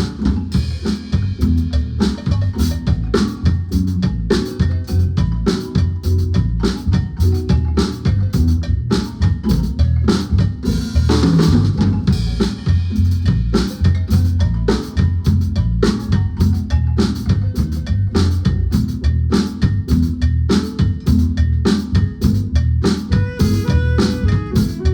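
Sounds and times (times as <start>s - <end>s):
drum kit playing a beat: 0.0s - 24.9s
low bass line: 0.6s - 24.9s.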